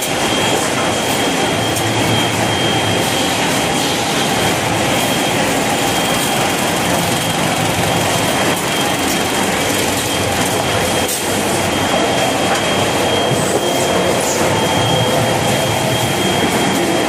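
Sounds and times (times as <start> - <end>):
high whine: 0.0 - 17.0
machinery clatter: 0.0 - 17.0.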